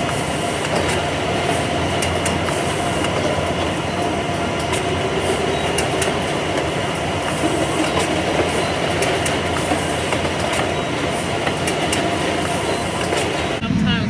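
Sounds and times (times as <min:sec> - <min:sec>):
conveyor belts and machinery running: 0:00.0 - 0:14.0.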